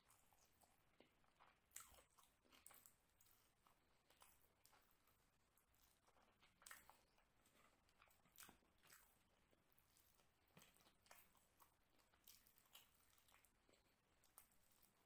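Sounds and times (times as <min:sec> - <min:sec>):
faint chewing: 0:00.0 - 0:15.0.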